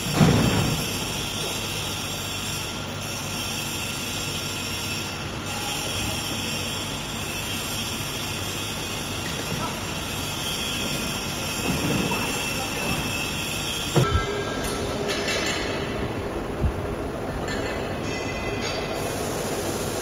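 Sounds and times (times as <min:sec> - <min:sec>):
production line machinery running: 0:00.0 - 0:20.0.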